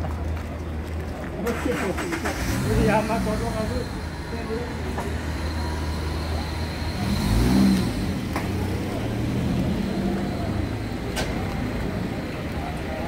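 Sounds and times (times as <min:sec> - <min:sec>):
faint voices of people: 0:00.0 - 0:13.0
vehicle engine running and revving: 0:01.9 - 0:13.0.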